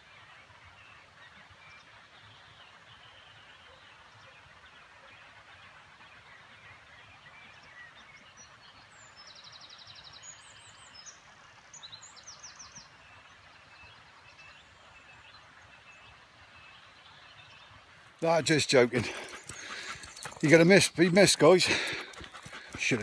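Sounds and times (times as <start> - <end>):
outdoor background hiss: 0.0 - 23.0
songbirds singing: 0.0 - 23.0.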